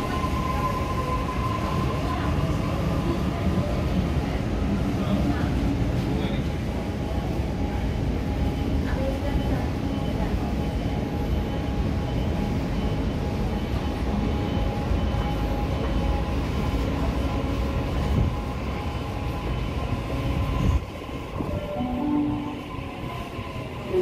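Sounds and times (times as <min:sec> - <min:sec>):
escalator machinery rumble and whine: 0:00.0 - 0:24.0.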